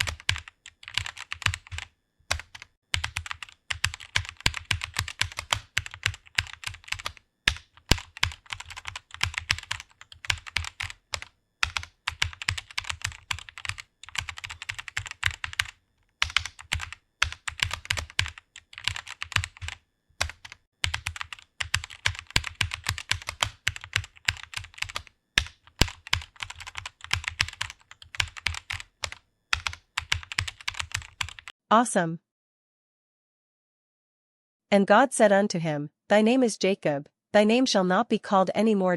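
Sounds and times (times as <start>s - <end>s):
keyboard typing: 0.0s - 31.5s.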